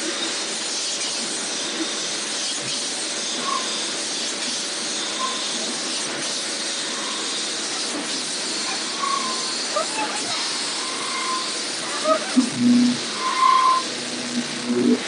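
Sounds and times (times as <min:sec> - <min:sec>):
metal spinning machine hissing: 0:00.0 - 0:15.0.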